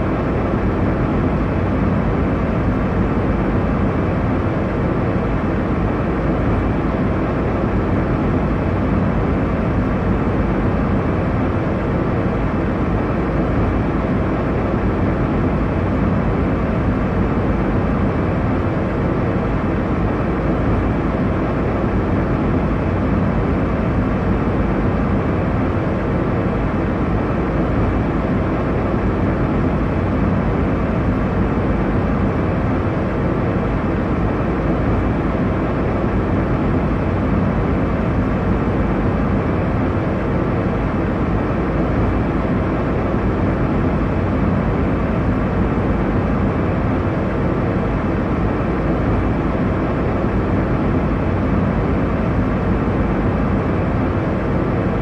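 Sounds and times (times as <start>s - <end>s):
airliner cabin drone: 0.0s - 55.0s.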